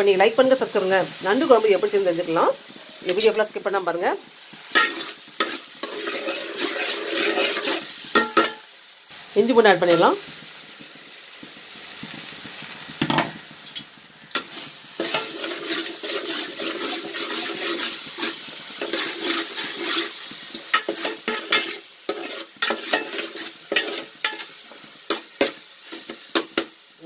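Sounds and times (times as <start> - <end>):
food sizzling in oil: 0.0 - 27.0.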